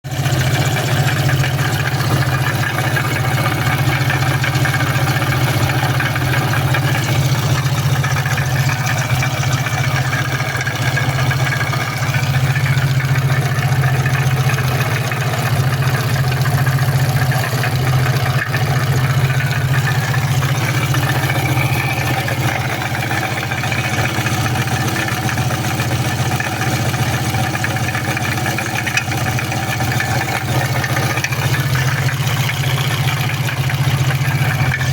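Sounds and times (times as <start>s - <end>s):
car engine idling: 0.0s - 34.9s
engine knock: 0.0s - 34.9s.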